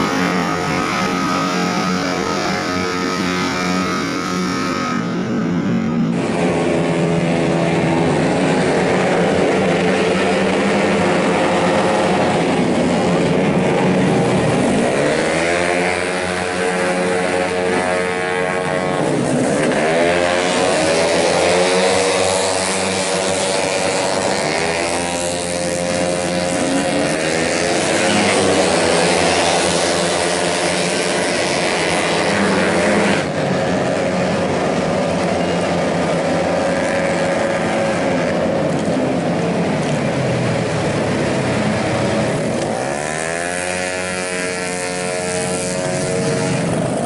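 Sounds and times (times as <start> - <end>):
scooter engines revving: 0.0 - 47.0.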